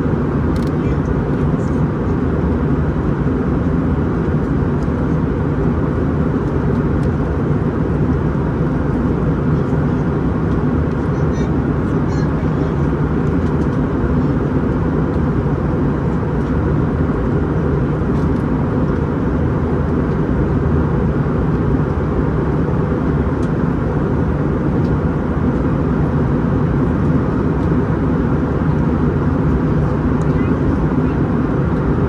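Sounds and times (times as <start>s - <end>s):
airliner cabin engine noise: 0.0s - 32.0s.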